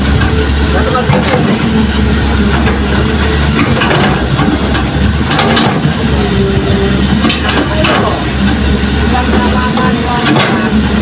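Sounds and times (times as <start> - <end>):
diesel engines droning: 0.0 - 11.0.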